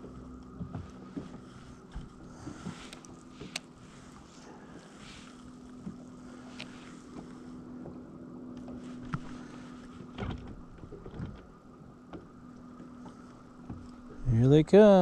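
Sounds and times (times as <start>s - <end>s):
light knocks from boat: 0.0s - 14.2s.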